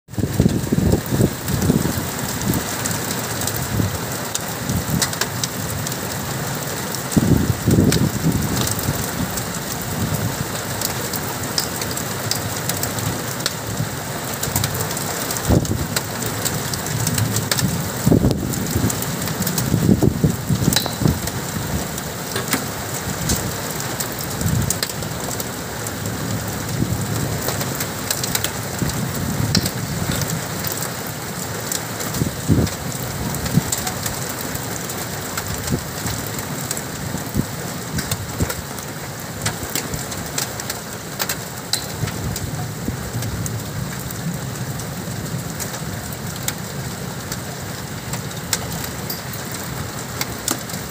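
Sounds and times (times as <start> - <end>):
heavy rain pouring: 0.1 - 50.9
raindrops ticking on a surface: 0.1 - 50.9.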